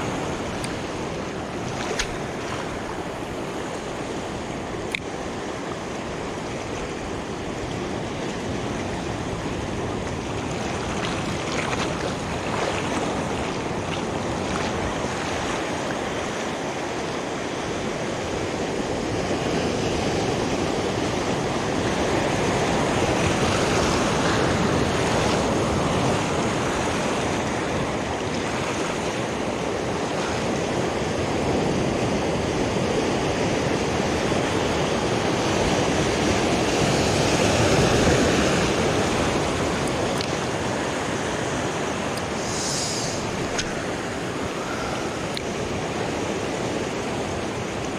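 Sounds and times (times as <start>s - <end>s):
surf washing over rocks: 0.0s - 47.9s.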